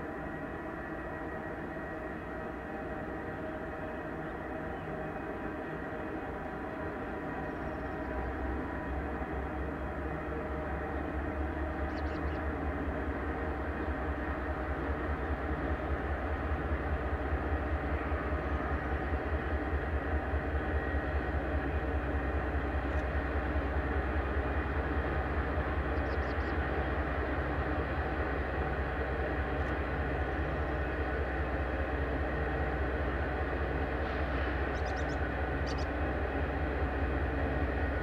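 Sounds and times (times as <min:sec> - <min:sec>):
diesel locomotive engine drone: 0:00.0 - 0:38.0.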